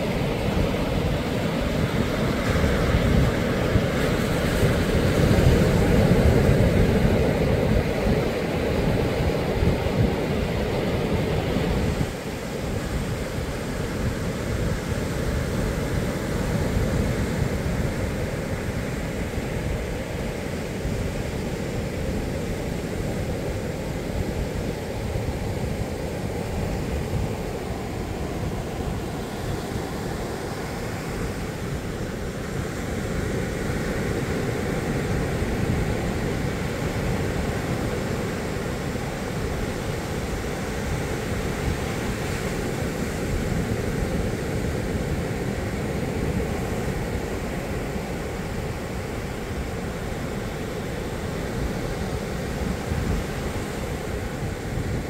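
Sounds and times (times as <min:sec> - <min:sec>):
ocean surf breaking on beach: 0:00.0 - 0:55.0
wind on microphone: 0:00.0 - 0:55.0.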